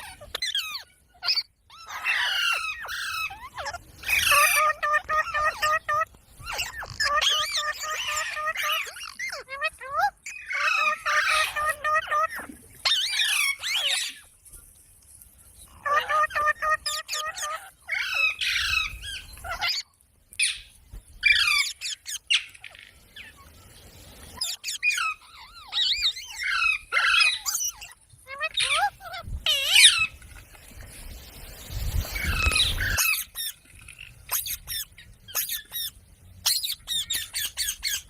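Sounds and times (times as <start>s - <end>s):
parrot chattering and calling: 0.0s - 14.3s, 15.8s - 23.5s, 24.4s - 30.2s, 32.2s - 38.0s.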